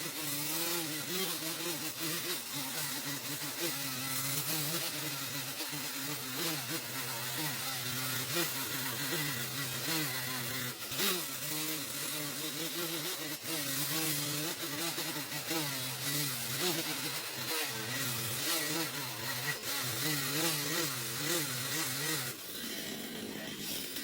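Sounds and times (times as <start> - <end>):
chainsaw cutting wood: 0.0 - 24.0.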